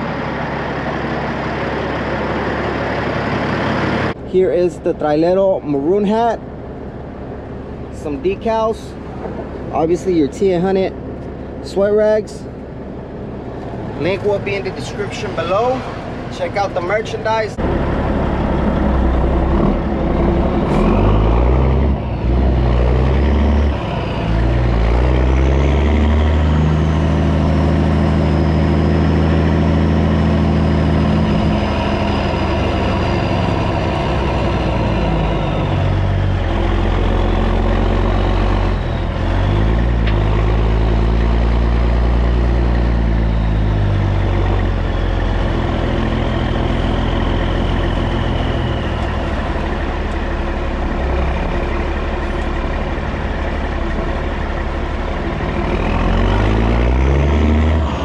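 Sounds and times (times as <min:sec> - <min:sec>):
truck diesel engine shifting gears: 0:00.0 - 0:58.0.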